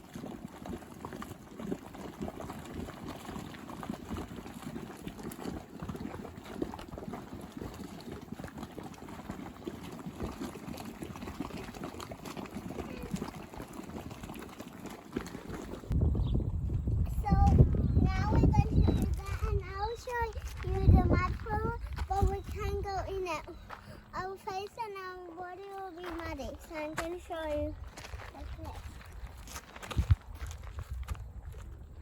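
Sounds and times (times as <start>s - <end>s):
boiling mud pool bubbling: 0.0s - 32.0s.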